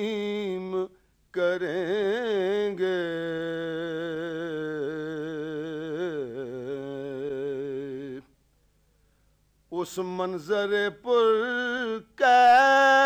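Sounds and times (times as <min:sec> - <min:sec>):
man singing with vibrato: 0:00.0 - 0:08.4, 0:09.7 - 0:13.0.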